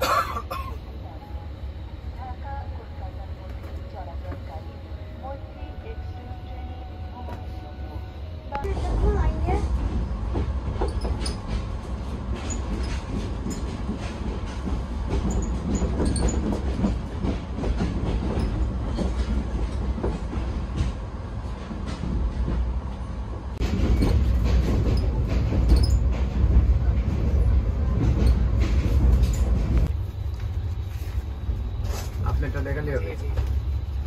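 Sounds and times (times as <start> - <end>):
train wheels rumbling on rails: 2.0 - 34.0.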